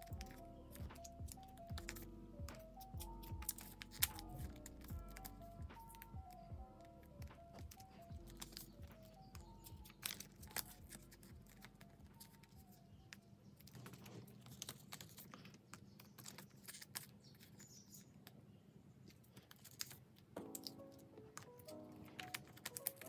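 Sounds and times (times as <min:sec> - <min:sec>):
cards clicking and tapping: 0:00.0 - 0:18.4, 0:19.1 - 0:23.0
plastic sleeves rustling: 0:00.0 - 0:18.4, 0:19.0 - 0:23.0.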